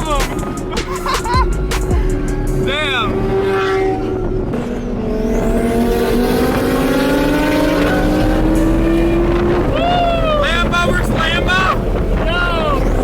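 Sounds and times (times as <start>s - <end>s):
sports car engine accelerating: 0.0s - 13.0s.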